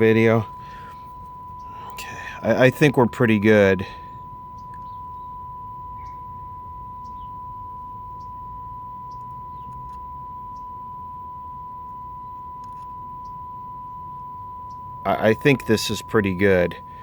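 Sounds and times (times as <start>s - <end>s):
steady radio test tone: 0.0s - 17.0s.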